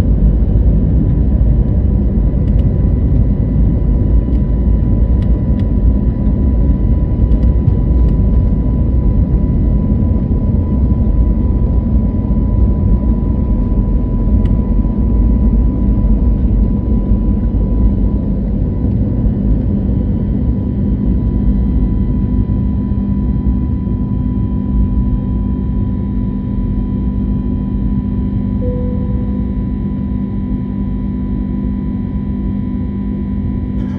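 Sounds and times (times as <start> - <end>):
jet engines rumbling and whining: 0.0 - 33.9.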